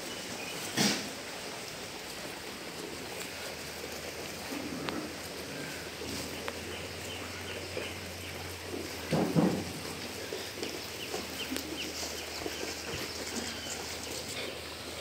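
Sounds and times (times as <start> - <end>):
sheep eating fodder rustling: 0.0 - 15.0.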